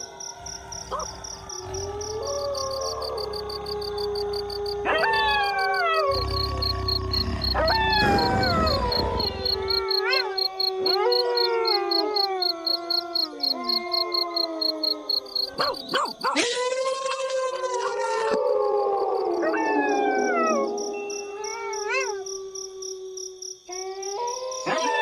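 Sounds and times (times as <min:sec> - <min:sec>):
high pulsing insect chirp: 0:00.0 - 0:16.4, 0:18.5 - 0:25.0
wolves howling in chorus: 0:00.0 - 0:25.0.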